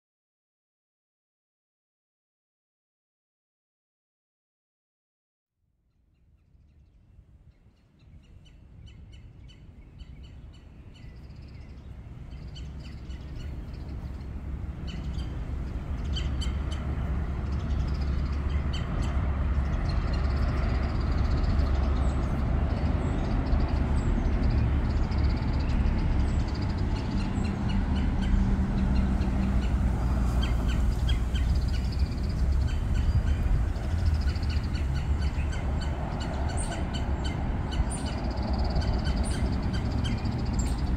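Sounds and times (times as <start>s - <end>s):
birds chirping: 6.6s - 40.9s
low engine hum: 6.8s - 40.9s
road traffic rumble: 7.2s - 40.9s.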